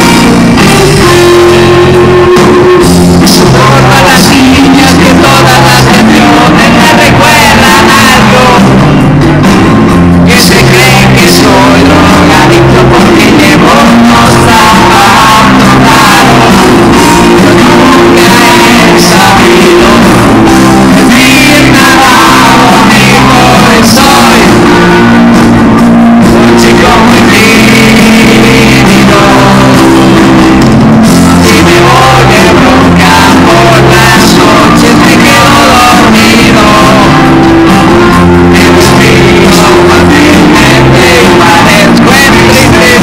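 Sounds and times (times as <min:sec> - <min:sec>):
live pop-rock band: 0:00.0 - 0:43.0
person singing: 0:00.0 - 0:43.0.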